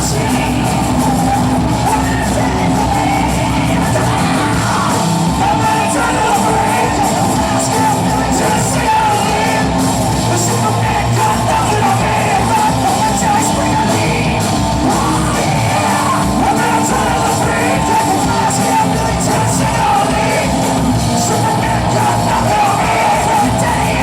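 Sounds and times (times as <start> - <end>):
person singing: 0.0 - 24.0
rock band playing: 0.0 - 24.0.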